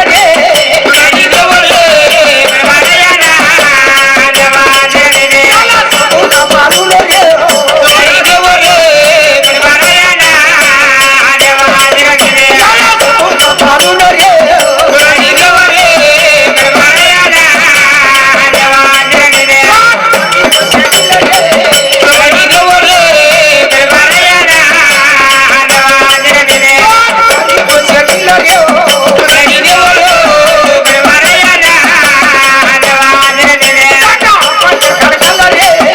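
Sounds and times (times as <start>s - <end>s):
fast rattling percussion: 0.0s - 35.9s.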